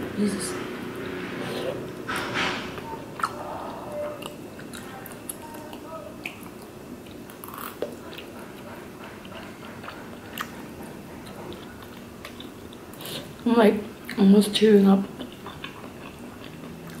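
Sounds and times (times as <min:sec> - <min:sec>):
chewing with wet mouth sounds: 0:03.2 - 0:17.0.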